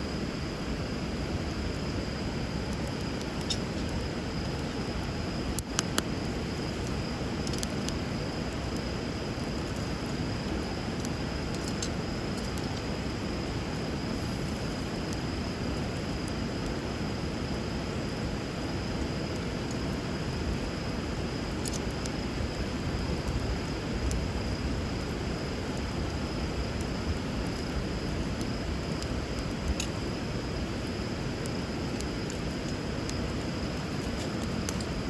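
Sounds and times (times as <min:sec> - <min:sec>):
bonfire crackling and popping: 0:00.1 - 0:35.0.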